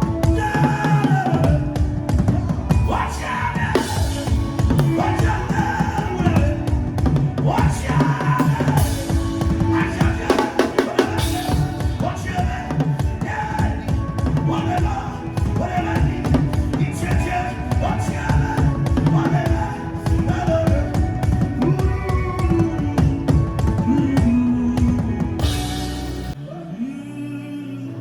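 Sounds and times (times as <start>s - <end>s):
rapid drumming: 0.0s - 26.4s
wavering melody line: 0.0s - 26.4s.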